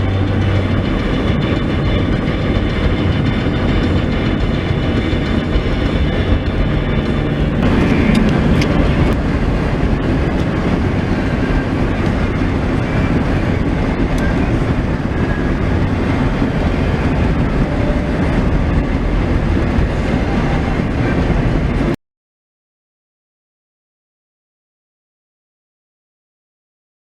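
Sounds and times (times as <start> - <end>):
diesel pickup engine running: 0.0 - 22.0
road rumble: 0.0 - 22.0.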